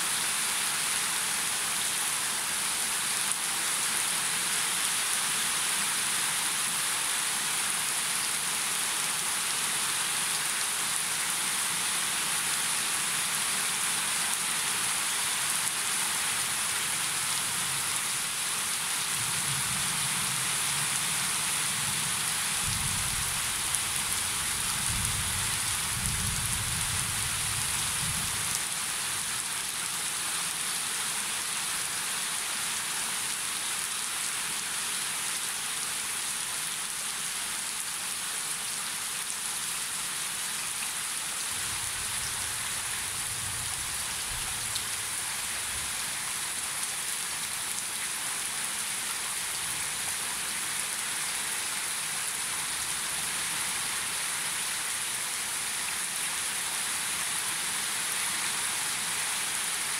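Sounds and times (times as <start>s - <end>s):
rain splashing onto water: 0.0s - 59.9s.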